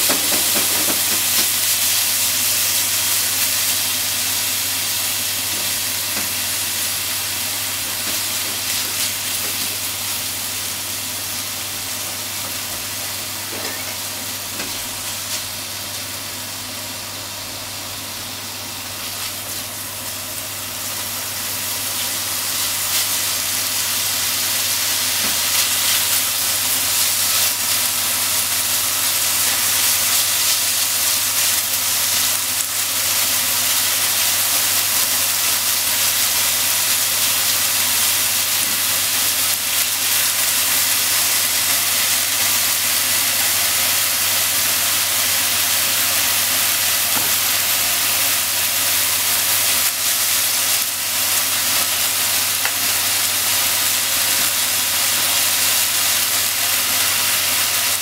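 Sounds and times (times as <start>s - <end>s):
chicken sizzling in a frying pan: 0.0s - 58.0s.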